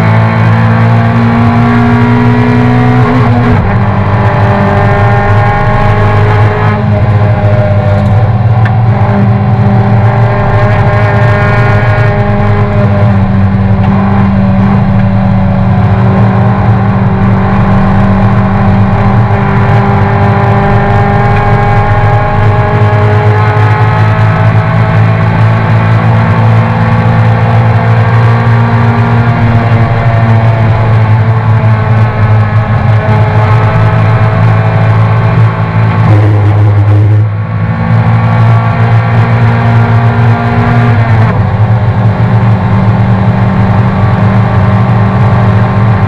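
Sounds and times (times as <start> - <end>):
gear changes: 0.0 - 46.0
racing car engine from inside cabin: 0.0 - 46.0.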